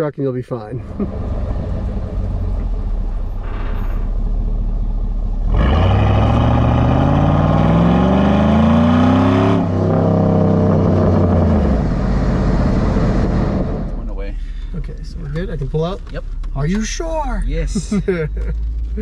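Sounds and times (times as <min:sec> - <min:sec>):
car engine idling and revving: 0:00.8 - 0:19.0.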